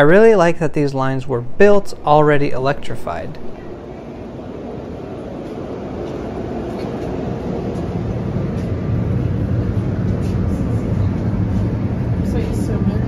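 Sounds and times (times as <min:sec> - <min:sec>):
electric train hum and rumble: 0:00.0 - 0:13.0.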